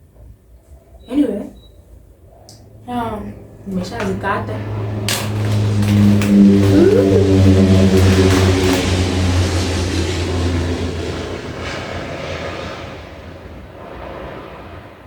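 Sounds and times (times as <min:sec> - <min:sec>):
airplane passing over: 0:02.5 - 0:15.0.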